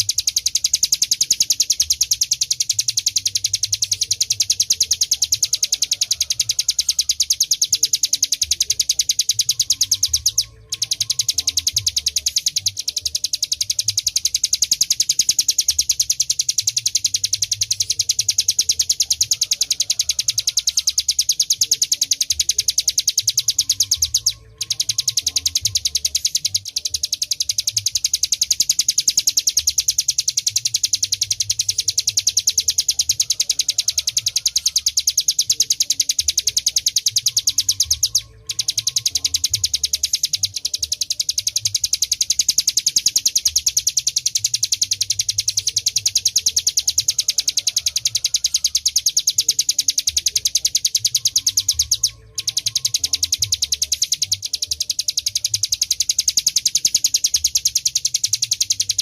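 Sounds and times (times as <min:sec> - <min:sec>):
bird singing high-pitched trill: 0:00.0 - 0:59.0.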